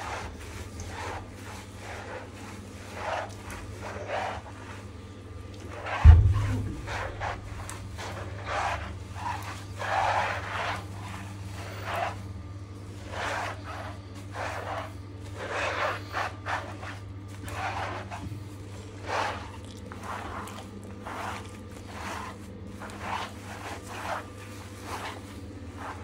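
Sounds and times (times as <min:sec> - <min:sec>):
rubber mitt scrubbing wet fur: 0:00.0 - 0:26.0.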